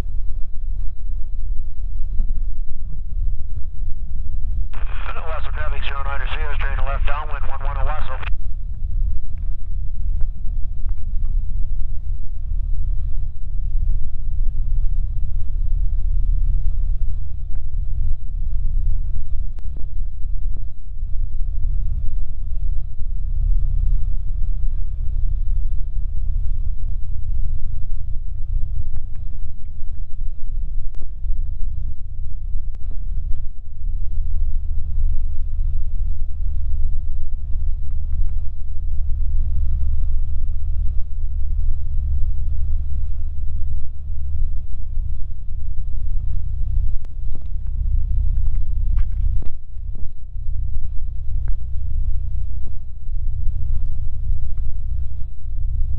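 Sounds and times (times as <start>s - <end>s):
airplane engine and propeller droning: 0.0s - 55.9s.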